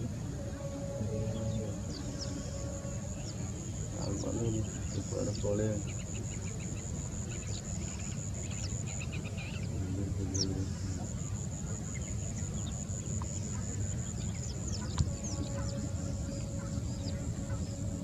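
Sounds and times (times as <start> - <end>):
thin high whine: 0.0 - 8.4, 10.2 - 18.0
birds chirping: 0.0 - 18.0
lower repeated bird call: 0.0 - 18.0.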